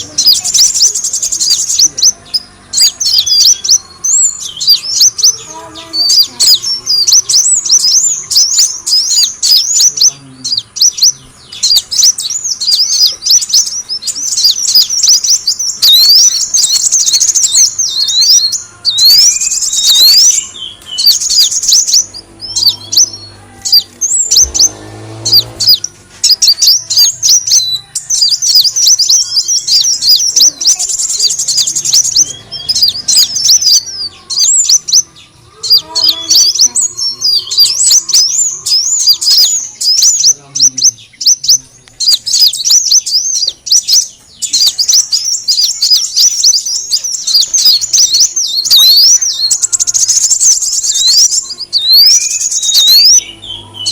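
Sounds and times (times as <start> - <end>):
bird high-pitched chirps: 0.0 - 53.9.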